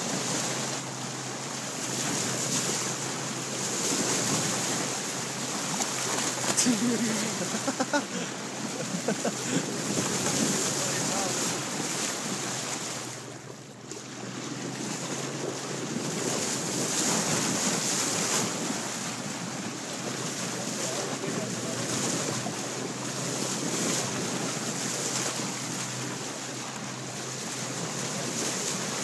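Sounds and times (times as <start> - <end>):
water lapping against boat: 0.0 - 29.0.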